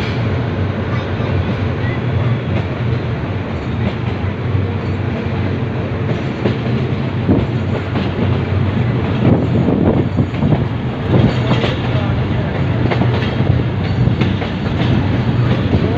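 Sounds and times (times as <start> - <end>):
train wheels rumbling: 0.0 - 15.9
wheels clacking over rail joints: 1.2 - 15.9.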